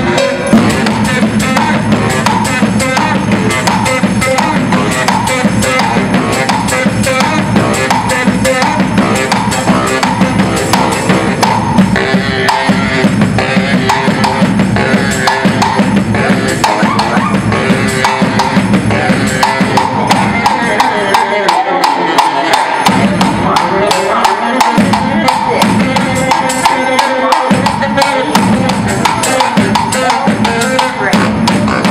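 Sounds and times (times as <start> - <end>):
baritone saxophone: 0.0 - 31.9
fast marching drumbeat: 0.0 - 31.9.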